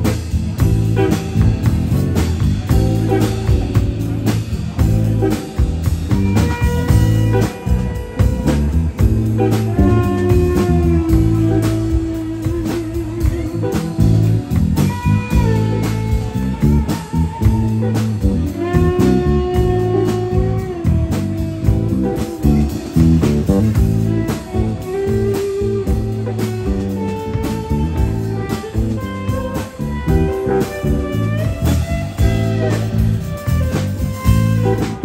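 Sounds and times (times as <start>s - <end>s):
electric guitar held notes: 0.0s - 35.0s
live rock band playing: 0.0s - 35.0s.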